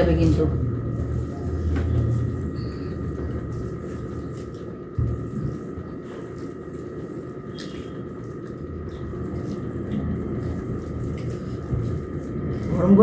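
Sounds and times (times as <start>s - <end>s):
low room hum: 0.0s - 13.0s
fingers mashing wet rice: 1.0s - 13.0s.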